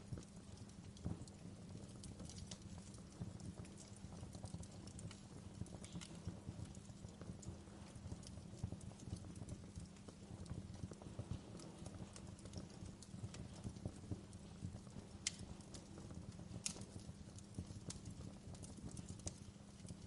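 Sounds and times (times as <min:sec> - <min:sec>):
burning logs snapping: 0:00.0 - 0:20.0
low fire rumble: 0:00.0 - 0:20.0.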